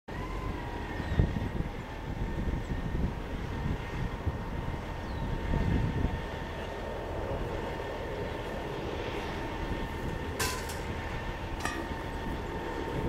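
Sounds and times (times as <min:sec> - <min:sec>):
jet engines whining: 0:00.1 - 0:13.0
wind buffeting microphone: 0:00.1 - 0:13.0.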